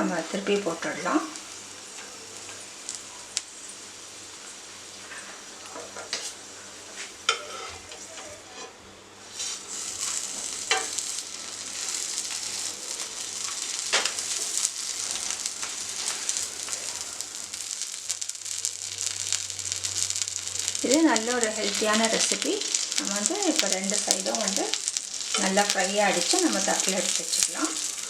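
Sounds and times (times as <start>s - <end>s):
tortilla sizzling in oil: 0.0s - 28.0s.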